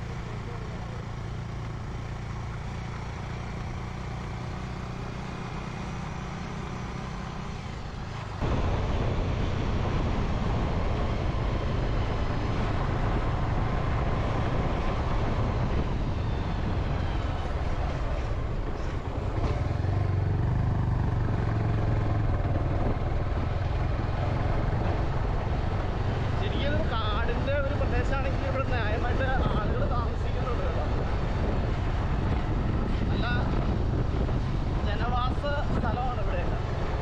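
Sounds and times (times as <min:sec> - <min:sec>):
motorcycle engine running: 0:00.0 - 0:37.0
wind rushing over microphone: 0:06.8 - 0:37.0.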